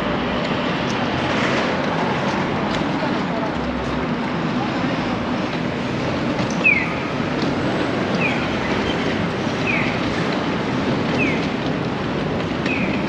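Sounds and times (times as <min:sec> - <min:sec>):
rumbling street noise: 0:00.0 - 0:13.0.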